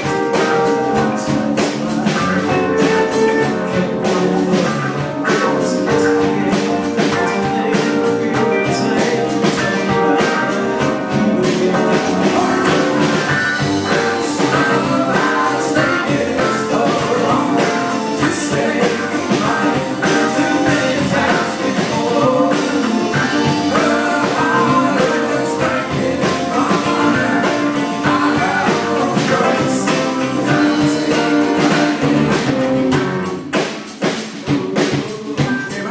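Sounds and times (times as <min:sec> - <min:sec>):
person singing: 0:00.0 - 0:33.1, 0:34.4 - 0:35.9
rock band playing: 0:00.0 - 0:35.9.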